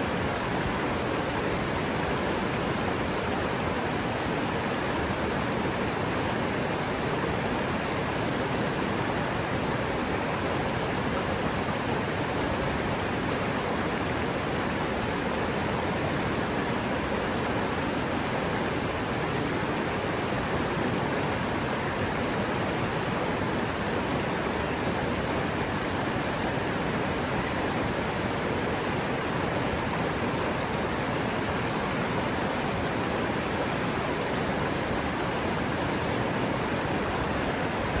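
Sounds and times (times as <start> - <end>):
river water rushing over rocks: 0.0 - 38.0.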